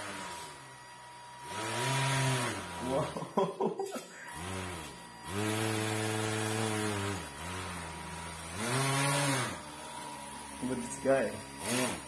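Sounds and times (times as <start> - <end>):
small electric motor revving: 0.0 - 3.2, 3.9 - 12.0.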